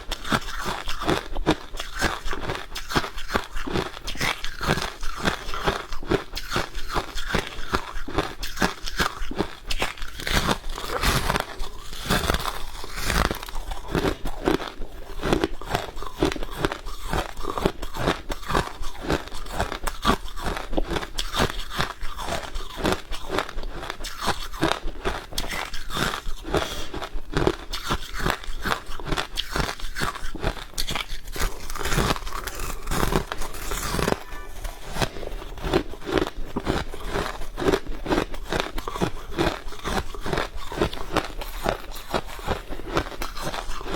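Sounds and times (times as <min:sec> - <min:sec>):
frost being chewed crunching: 0:00.0 - 0:43.9.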